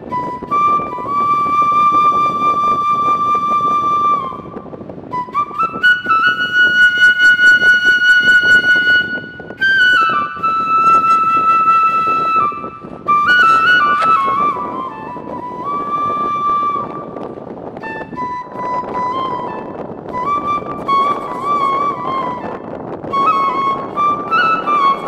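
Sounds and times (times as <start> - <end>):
slow flute melody: 0.0 - 25.0.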